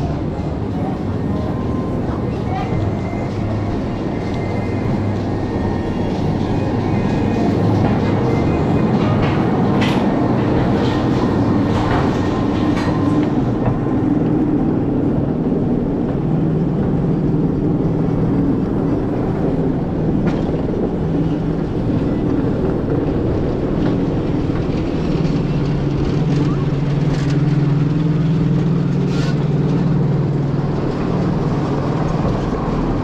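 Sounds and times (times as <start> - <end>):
lift mechanical rumble and clatter: 0.0 - 33.0.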